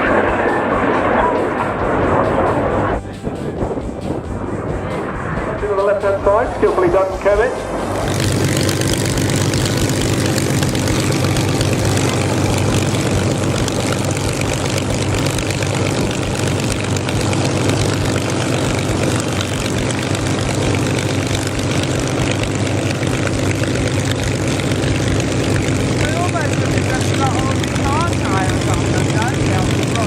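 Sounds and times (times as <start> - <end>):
aircraft engine drone: 0.0 - 30.0.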